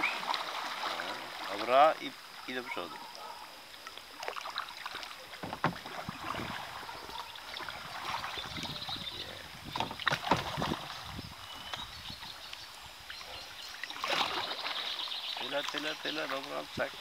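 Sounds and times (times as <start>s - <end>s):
kayak paddles splashing water: 0.0s - 17.0s.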